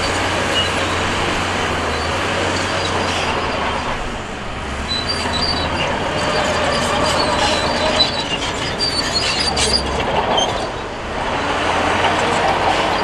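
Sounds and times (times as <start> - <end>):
bulldozer engine running: 0.0 - 13.0
steel tracks squealing: 0.0 - 13.0.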